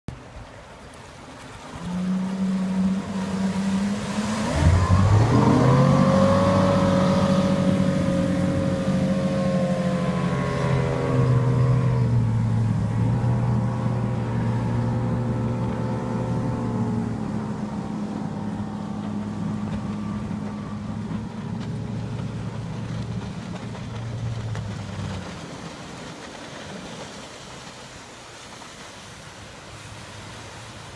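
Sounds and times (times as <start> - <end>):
boat engine revving: 1.6 - 27.2.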